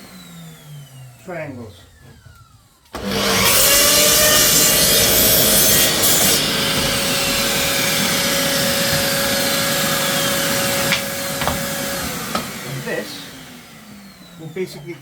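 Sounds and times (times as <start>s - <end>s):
electric saw motor whine: 0.0s - 1.2s, 2.0s - 15.0s
saw cutting plywood: 3.0s - 15.0s.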